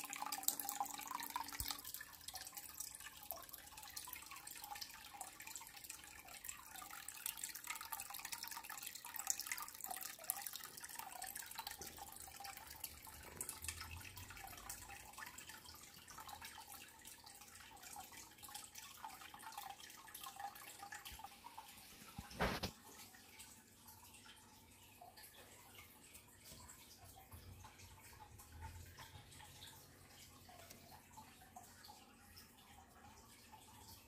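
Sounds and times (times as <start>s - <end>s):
water dripping and trickling: 0.0s - 34.0s.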